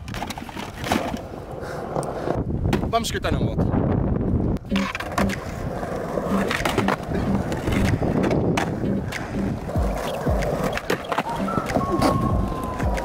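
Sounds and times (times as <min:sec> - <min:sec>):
skateboard wheels rolling on stone: 0:00.0 - 0:02.9, 0:04.6 - 0:13.0.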